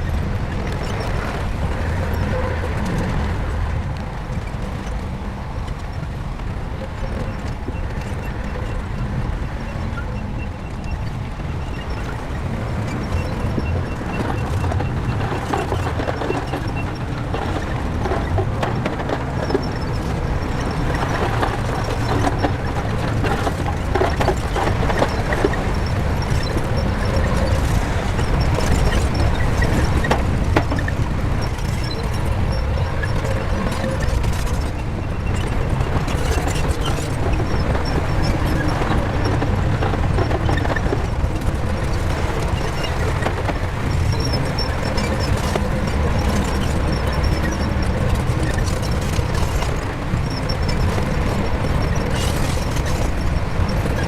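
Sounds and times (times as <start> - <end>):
bulldozer diesel engine running: 0.0 - 54.0
clanks and knocks from tracks: 0.0 - 54.0.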